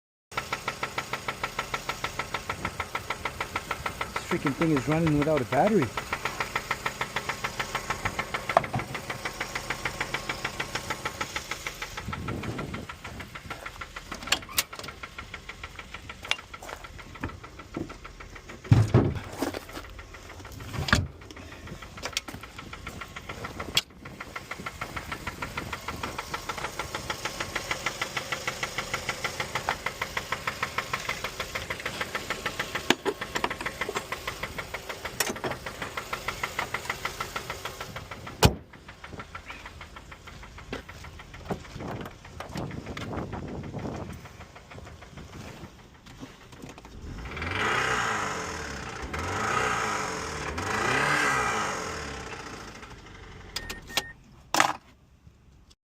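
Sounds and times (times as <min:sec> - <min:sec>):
car engine idling with knock: 0:00.3 - 0:55.8.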